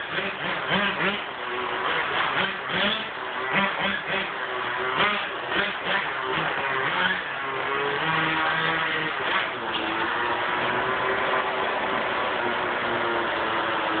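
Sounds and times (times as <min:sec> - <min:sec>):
small rc car engine buzzing: 0:00.0 - 0:14.0.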